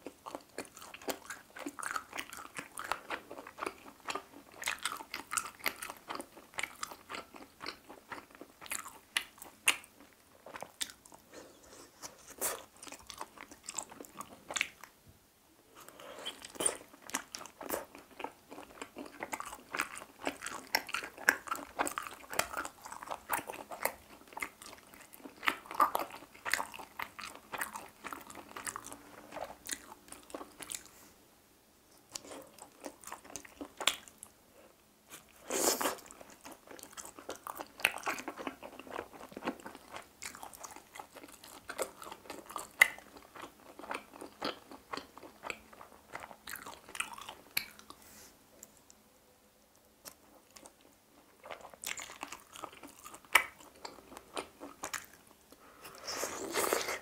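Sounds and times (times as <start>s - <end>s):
chewing and biting: 0.0s - 11.6s, 12.3s - 14.9s, 16.2s - 30.9s, 35.1s - 48.0s, 50.0s - 55.3s.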